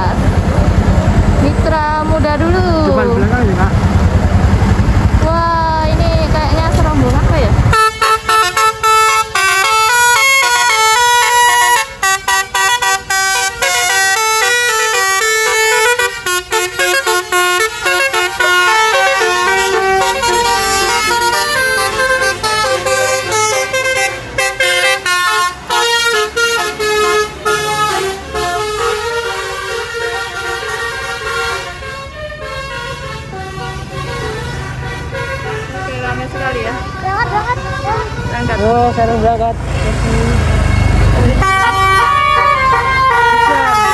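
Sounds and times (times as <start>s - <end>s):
bus air horns playing melody: 7.7s - 43.9s.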